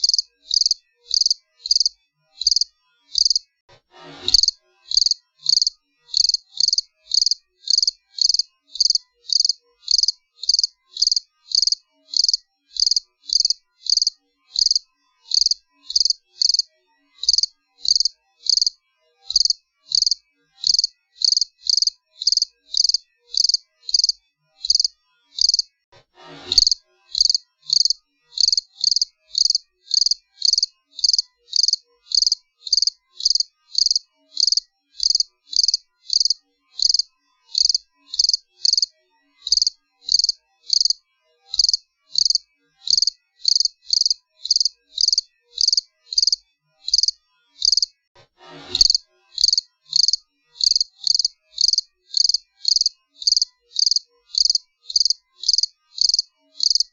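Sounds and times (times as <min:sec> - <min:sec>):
cricket chirping: 0:00.0 - 0:03.4, 0:04.4 - 0:25.7, 0:26.6 - 0:38.9, 0:39.5 - 0:47.9, 0:48.8 - 0:56.9.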